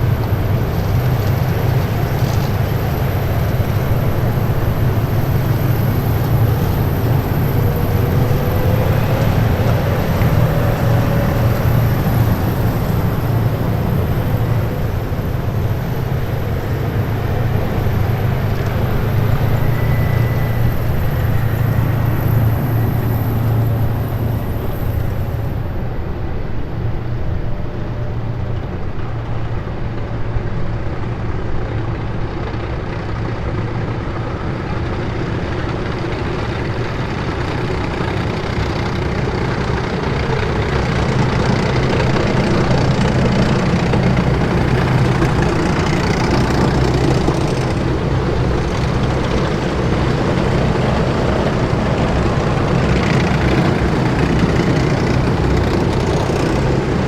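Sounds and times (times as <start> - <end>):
faint high whine: 0.0 - 57.0
heavy vehicles engine drone: 0.0 - 57.0.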